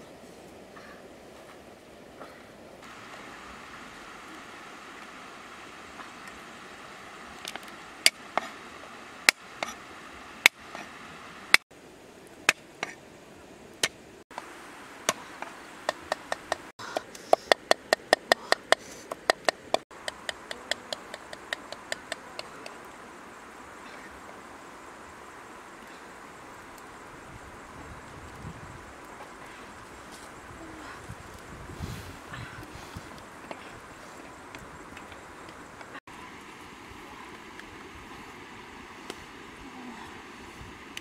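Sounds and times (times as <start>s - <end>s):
faint hiss: 0.0s - 19.3s, 20.0s - 41.0s.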